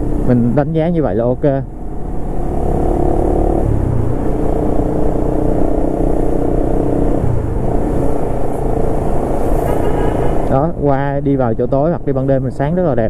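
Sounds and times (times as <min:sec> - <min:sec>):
motorcycle engine running: 0:00.0 - 0:13.0
road and wind rumble: 0:00.0 - 0:13.0.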